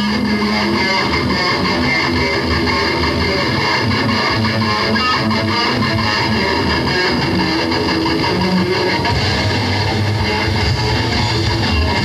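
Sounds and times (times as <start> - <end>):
live band playing: 0.0 - 12.0.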